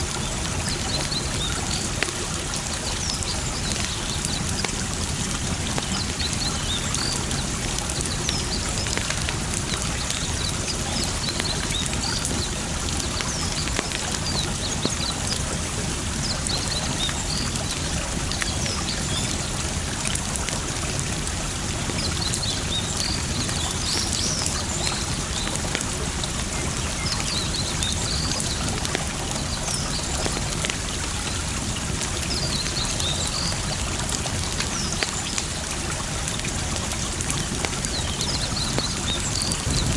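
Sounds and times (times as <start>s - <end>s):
campfire crackling and popping: 0.0s - 39.9s
running water: 0.0s - 39.9s.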